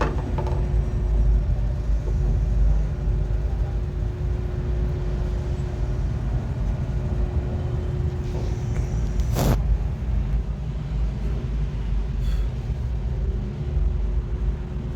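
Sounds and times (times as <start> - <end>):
faint hum: 0.0 - 14.9.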